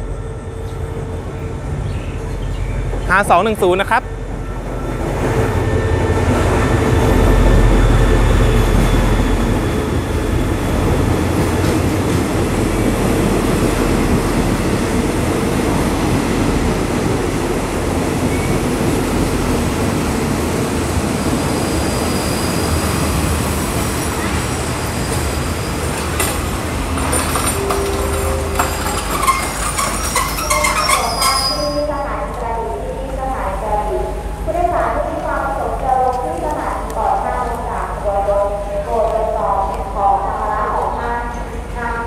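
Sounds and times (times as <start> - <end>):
diesel locomotive engine: 0.0 - 42.0
train wheels on track: 0.0 - 42.0.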